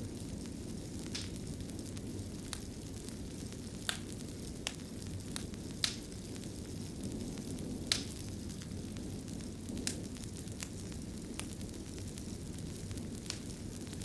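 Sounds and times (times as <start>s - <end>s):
wood fire crackling: 0.0s - 14.0s
sharp pops of fire: 0.1s - 14.0s.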